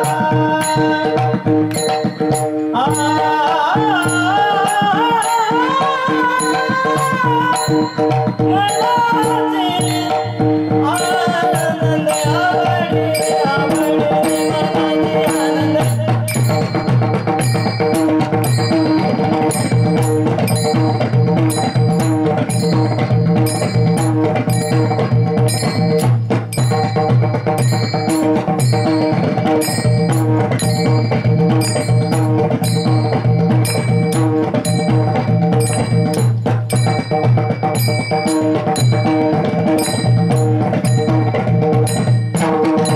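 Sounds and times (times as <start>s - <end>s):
barrel drum rhythm: 0.0s - 42.9s
hand cymbals clashing: 0.0s - 42.9s
held melodic notes: 0.0s - 42.9s.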